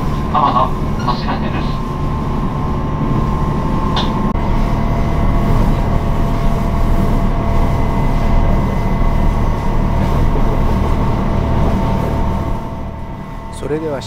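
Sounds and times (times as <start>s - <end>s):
diesel railcar engine drone: 0.0s - 14.0s.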